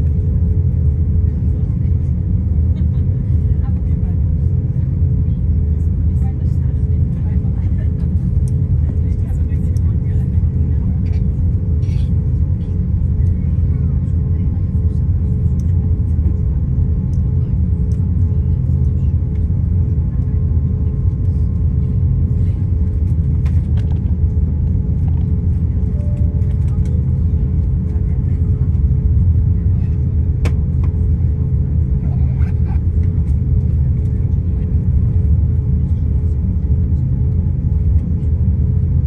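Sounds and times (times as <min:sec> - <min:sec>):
aircraft engines low rumble: 0:00.0 - 0:39.0.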